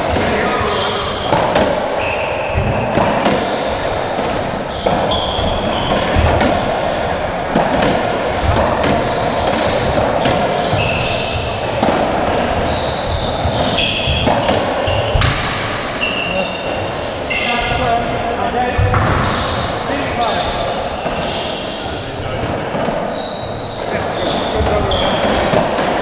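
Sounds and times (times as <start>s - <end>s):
shoe squeaks on wooden floor: 0.0s - 3.7s, 4.7s - 7.3s, 8.3s - 11.6s, 12.2s - 18.2s, 18.8s - 22.0s, 22.8s - 25.6s
ball hitting racquets and walls: 0.0s - 26.0s.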